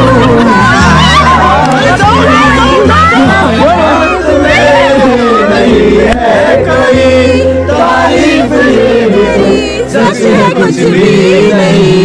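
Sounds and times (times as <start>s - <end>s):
song with sung melody and bass: 0.0s - 12.0s.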